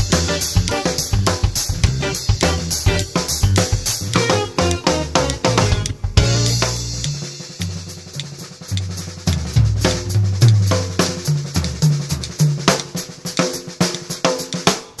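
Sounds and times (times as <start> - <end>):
bass line: 0.0 - 12.1
drum kit groove: 0.0 - 15.0.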